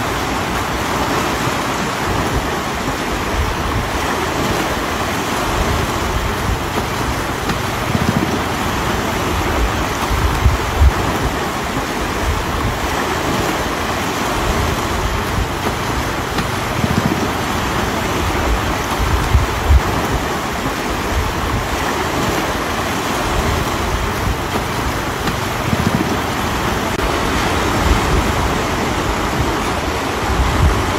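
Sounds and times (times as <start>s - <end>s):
river rushing: 0.0s - 30.9s.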